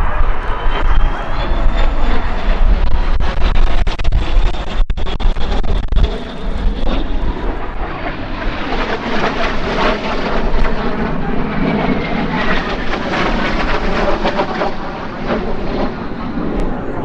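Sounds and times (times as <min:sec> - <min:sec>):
jet noise rushing: 0:00.0 - 0:17.0
jet passing whine: 0:00.0 - 0:17.0.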